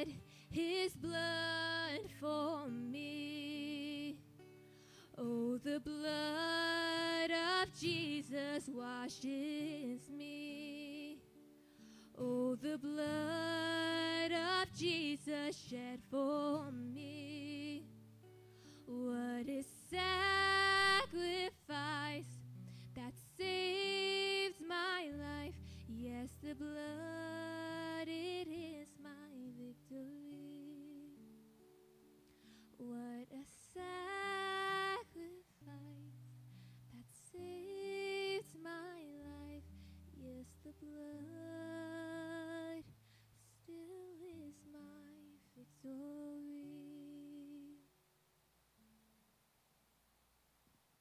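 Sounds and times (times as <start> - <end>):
acoustic guitar: 0.0 - 49.5.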